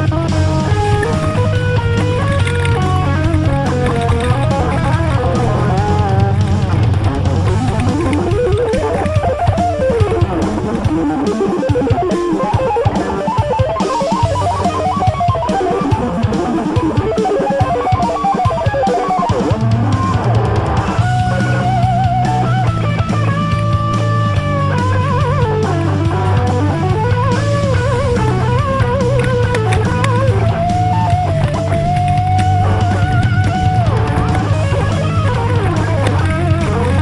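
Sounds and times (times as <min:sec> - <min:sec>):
rock music with guitar lead: 0:00.0 - 0:37.0.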